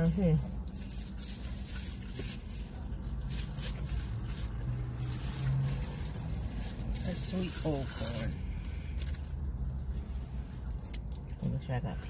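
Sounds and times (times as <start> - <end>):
low rumble inside a car: 0.0 - 12.0.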